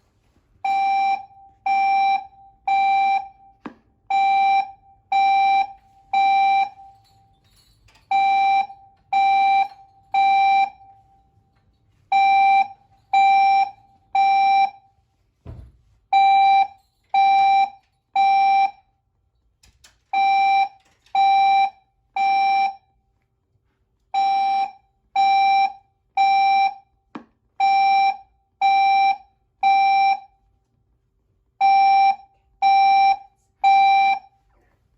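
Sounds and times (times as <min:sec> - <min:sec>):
fire alarm beeping: 0:00.2 - 0:15.2, 0:16.1 - 0:19.1, 0:19.8 - 0:23.2, 0:24.1 - 0:30.6, 0:31.5 - 0:34.5.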